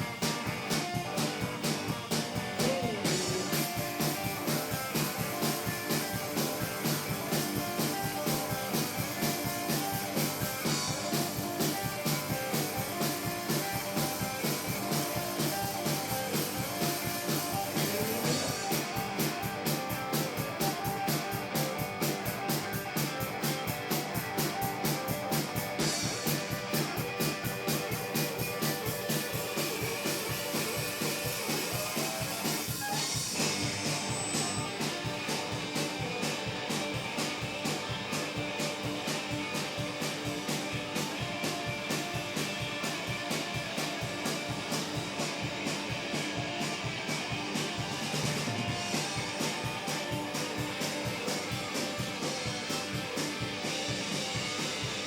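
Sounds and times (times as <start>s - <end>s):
electric guitar: 0.0s - 55.0s
steady drum beat: 0.0s - 55.0s.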